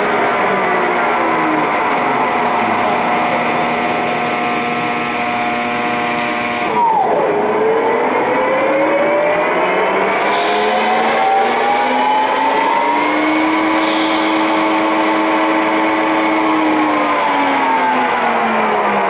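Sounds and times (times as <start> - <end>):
lathe gearing whine: 0.0 - 19.0.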